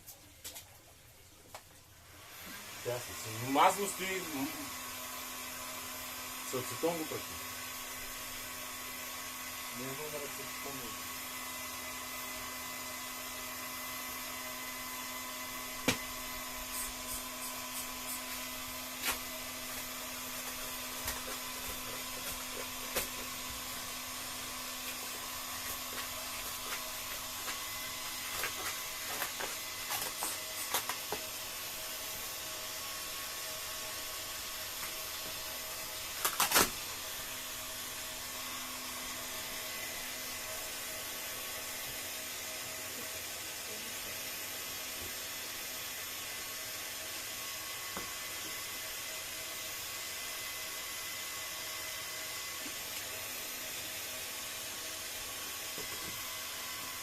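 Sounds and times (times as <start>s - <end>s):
electric air blower hissing: 2.1s - 57.0s.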